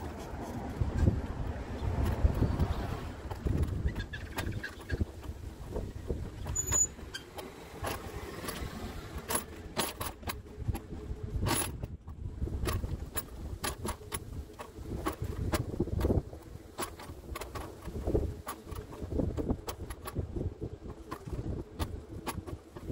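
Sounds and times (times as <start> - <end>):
mobility scooter motor rumble: 0.0 - 22.9
scooter clicks and rattles: 0.0 - 22.9.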